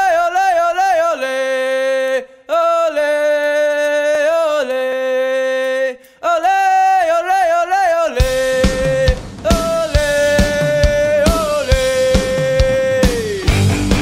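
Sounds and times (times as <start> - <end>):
person singing unaccompanied: 0.0 - 14.0.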